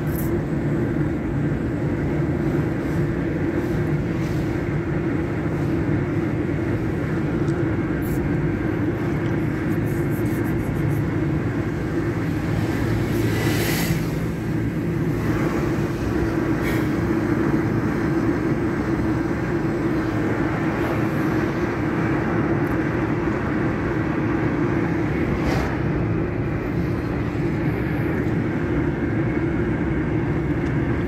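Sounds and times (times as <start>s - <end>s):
car road and engine noise: 0.0s - 31.0s.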